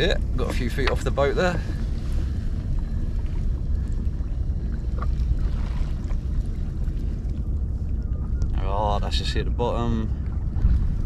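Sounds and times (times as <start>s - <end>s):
water lapping at kayak hull: 0.0s - 8.7s, 9.9s - 11.0s
wind rumbling on microphone: 0.0s - 11.0s.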